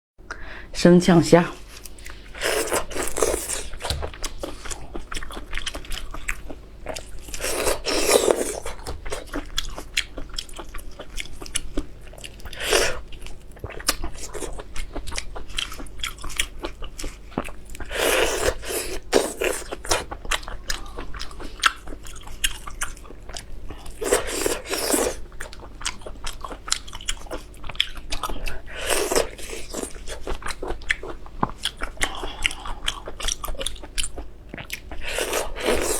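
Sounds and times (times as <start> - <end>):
biting and chewing crunchy food: 1.7 - 35.9.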